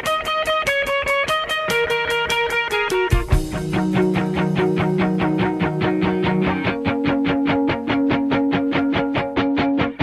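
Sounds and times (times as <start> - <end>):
electric guitar instrumental music: 0.0 - 10.0.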